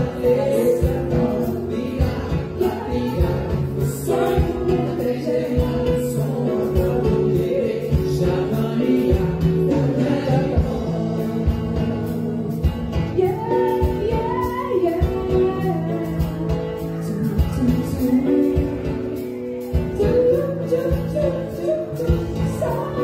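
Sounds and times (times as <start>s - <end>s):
acoustic guitar: 0.0s - 23.0s
vocal group singing in parts: 0.0s - 23.0s.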